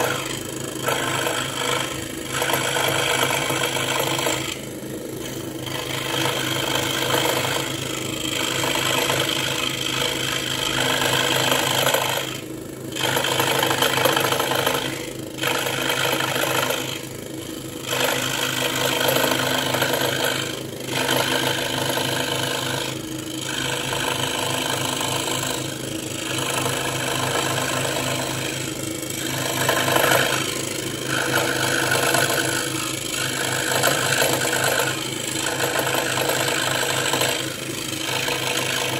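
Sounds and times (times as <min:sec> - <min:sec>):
saw blade rasping wood: 0:00.0 - 0:38.9
scroll saw motor hum: 0:00.0 - 0:38.9.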